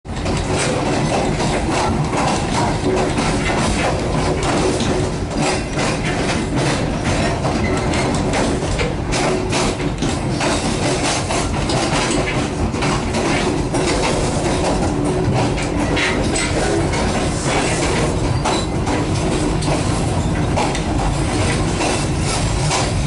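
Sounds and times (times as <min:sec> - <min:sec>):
train rumbling: 0:00.1 - 0:23.0
wheels clattering over rail joints: 0:00.1 - 0:23.0.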